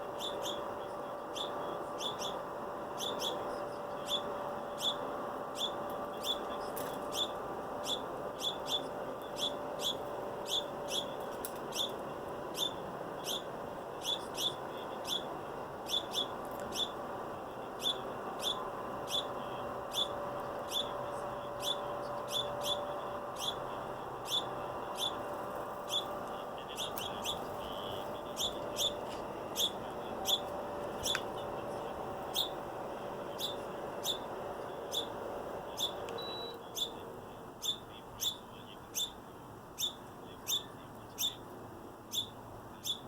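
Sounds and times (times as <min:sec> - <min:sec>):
small bird chirping: 0:00.0 - 0:17.0, 0:17.6 - 0:32.6, 0:33.3 - 0:39.2, 0:39.8 - 0:41.5, 0:42.1 - 0:43.0
steady background hum: 0:00.0 - 0:43.0.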